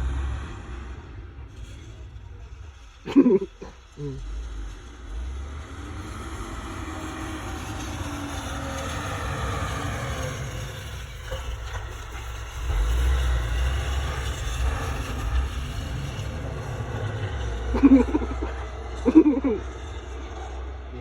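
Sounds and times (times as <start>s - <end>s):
truck engine rumbling past: 0.0s - 21.0s.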